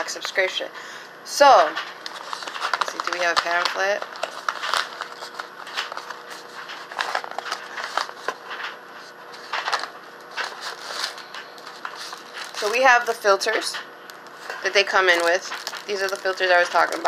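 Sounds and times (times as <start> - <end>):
paper envelope crinkling: 1.9 - 13.3, 14.2 - 17.0.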